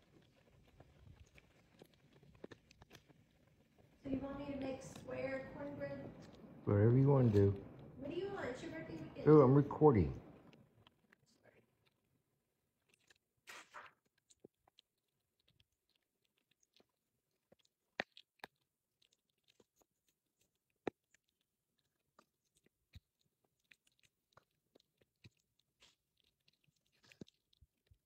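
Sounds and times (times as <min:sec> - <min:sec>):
dog chewing a treat: 0:00.0 - 0:28.0.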